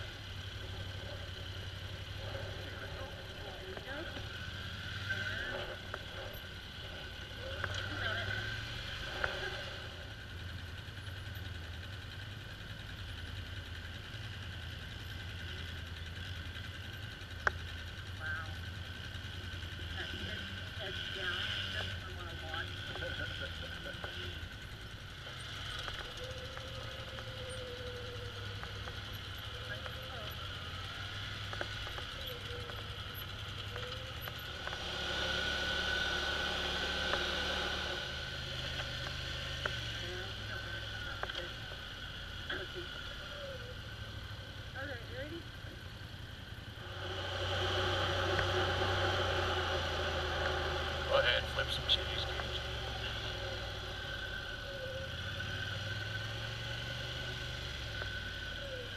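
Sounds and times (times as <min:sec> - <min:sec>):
atv engine droning: 0:00.0 - 0:58.9.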